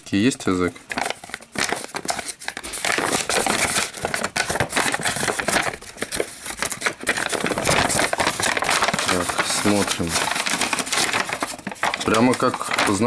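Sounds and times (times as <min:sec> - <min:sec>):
paper rustling and crackling: 0:00.6 - 0:13.0.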